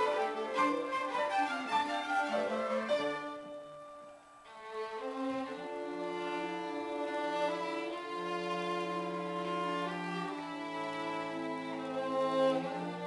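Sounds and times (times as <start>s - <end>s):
string orchestra playing: 0.0s - 13.0s.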